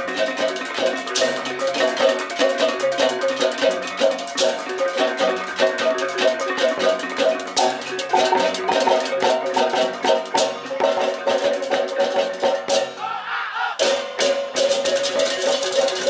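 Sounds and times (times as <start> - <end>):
drums: 0.0 - 16.0
metallophones in interlocking patterns: 0.0 - 16.0.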